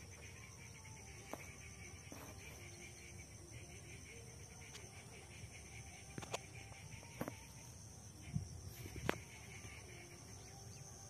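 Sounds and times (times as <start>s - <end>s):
insect buzz: 0.0s - 11.0s.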